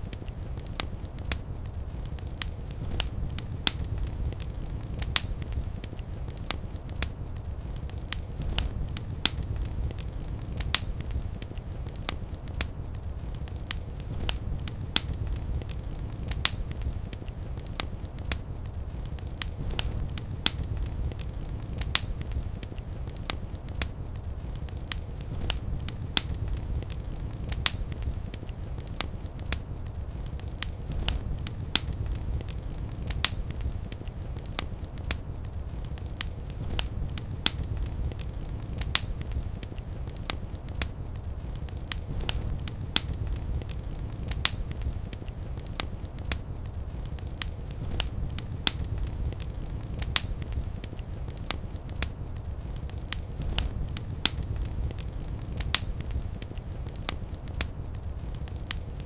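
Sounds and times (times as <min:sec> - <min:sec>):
fire low rumble: 0:00.0 - 0:59.0
fireplace fire crackling: 0:00.0 - 0:59.0.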